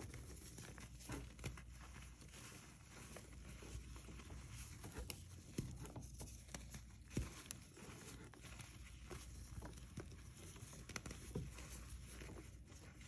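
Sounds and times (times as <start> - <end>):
hands crumbling soft chalk: 0.0 - 13.0.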